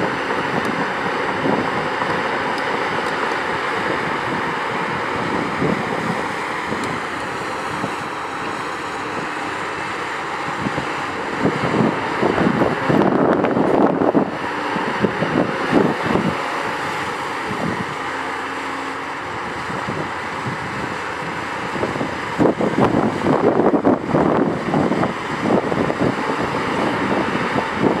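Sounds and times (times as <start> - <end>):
excavator diesel engine running: 0.0 - 28.0
steady whine: 0.0 - 28.0
wind noise on microphone: 0.0 - 28.0.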